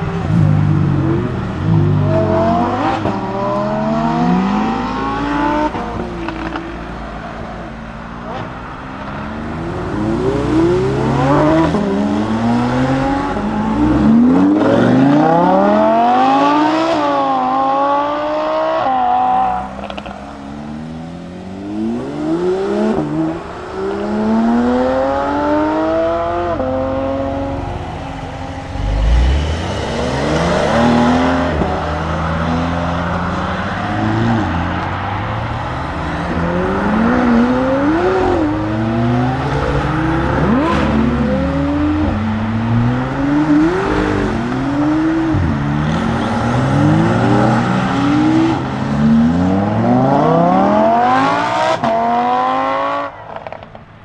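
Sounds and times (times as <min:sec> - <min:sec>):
car engine accelerating hard: 0:00.0 - 0:53.8.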